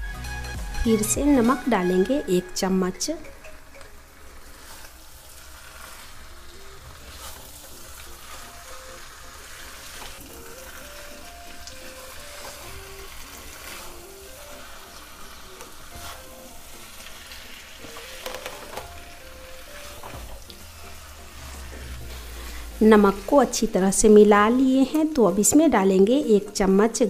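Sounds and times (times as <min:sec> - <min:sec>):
soft background melody: 0:00.0 - 0:27.0
frying sizzle: 0:00.9 - 0:27.0
wooden spatula scraping pan: 0:04.4 - 0:26.6.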